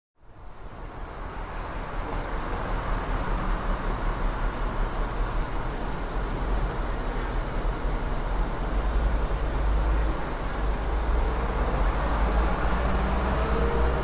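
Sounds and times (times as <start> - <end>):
traffic noise: 0.2 - 14.0.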